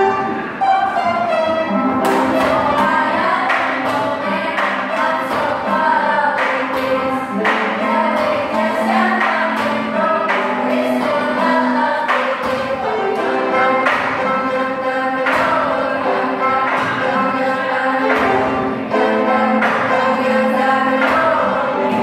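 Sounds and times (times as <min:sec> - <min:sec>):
children singing: 0:00.0 - 0:22.0
piano accompaniment: 0:00.0 - 0:22.0
percussive beat: 0:01.9 - 0:22.0.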